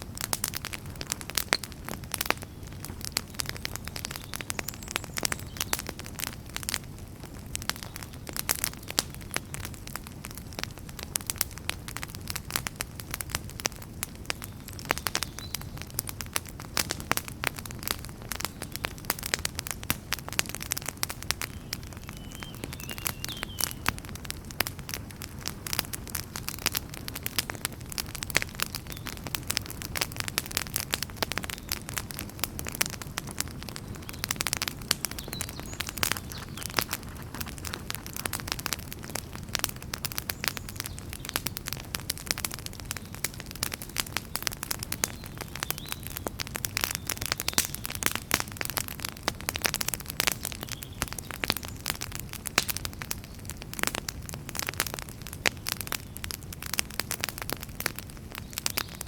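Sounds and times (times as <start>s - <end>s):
logs crackling and popping: 0.0s - 59.0s
low rumble of flame: 0.0s - 59.0s.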